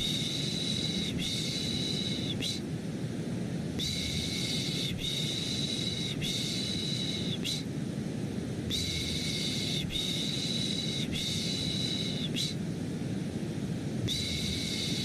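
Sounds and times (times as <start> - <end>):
deep white noise rumble: 0.0 - 15.0.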